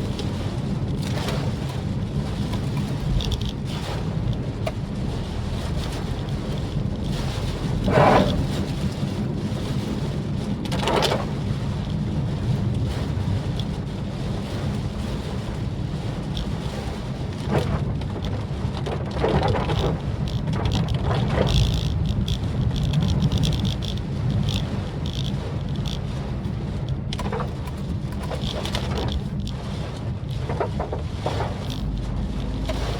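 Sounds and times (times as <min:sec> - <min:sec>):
car engine and road drone: 0:00.0 - 0:32.9
rain and wet tyre noise: 0:00.0 - 0:32.9.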